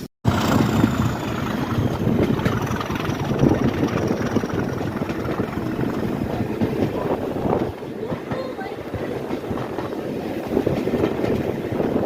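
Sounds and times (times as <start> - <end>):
railway engine idling: 0.3 - 12.0.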